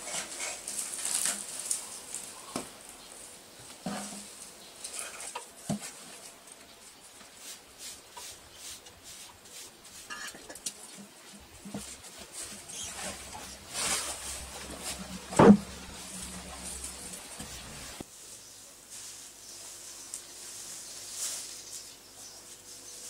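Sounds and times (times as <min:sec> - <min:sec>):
dry hay rustling and crackling: 0:00.0 - 0:23.0.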